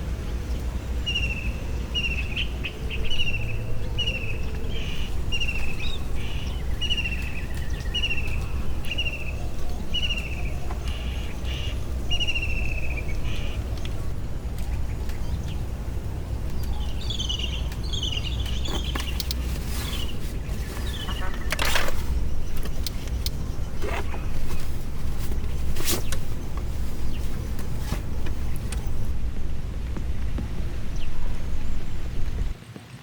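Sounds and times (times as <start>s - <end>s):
low rumble: 0.0s - 32.6s.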